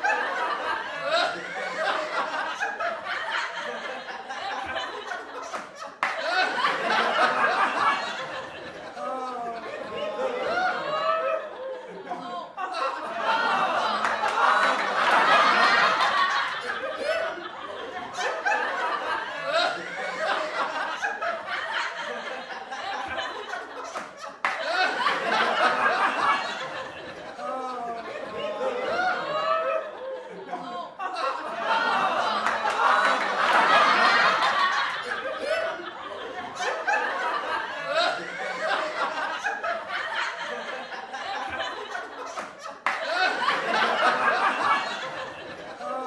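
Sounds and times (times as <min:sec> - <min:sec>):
people laughing: 0:00.0 - 0:46.0.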